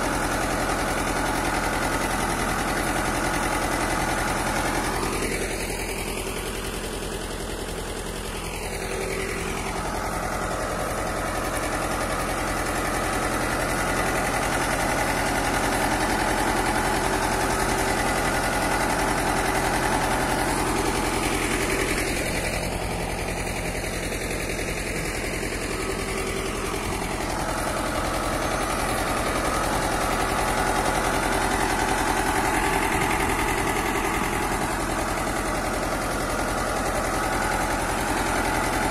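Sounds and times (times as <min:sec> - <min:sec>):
tractor engine under load: 0:00.0 - 0:38.9.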